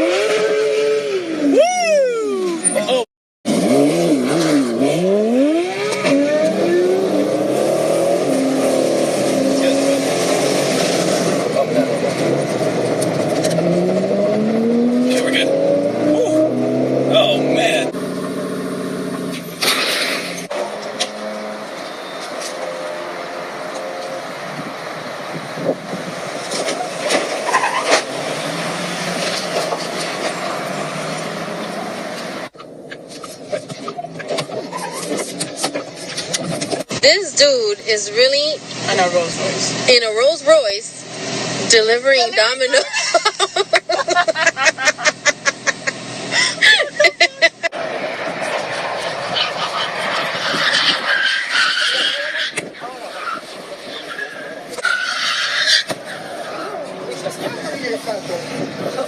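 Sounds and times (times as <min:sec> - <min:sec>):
vehicle road noise: 0:00.0 - 0:59.0
car engine accelerating hard: 0:02.8 - 0:36.9, 0:41.0 - 0:54.8.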